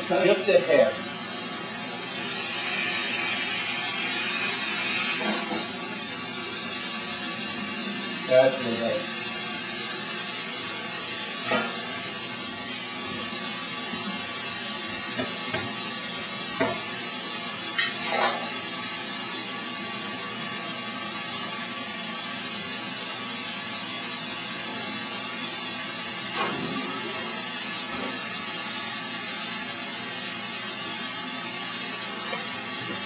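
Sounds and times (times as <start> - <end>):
furnace rushing hiss: 0.0 - 33.0.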